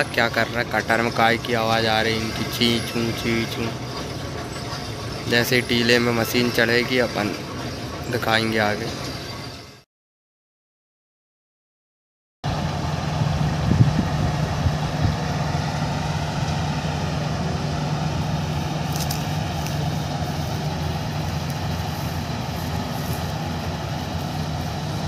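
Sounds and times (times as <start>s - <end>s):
combine harvester engine drone: 0.0s - 9.8s, 12.5s - 25.0s.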